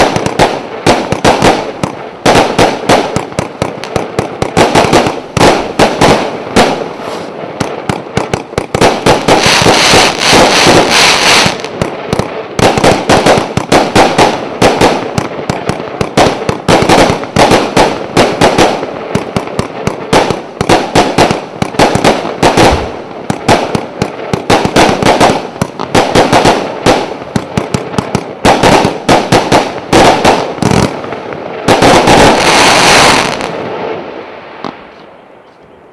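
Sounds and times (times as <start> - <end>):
firework cake firing shots: 0.0 - 33.6
firework crackling volley: 0.0 - 35.9.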